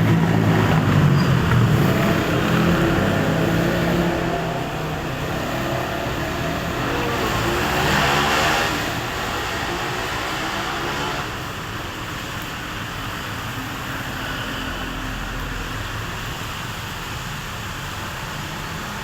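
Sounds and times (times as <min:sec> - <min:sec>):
street traffic with engine hum: 0:00.0 - 0:19.0.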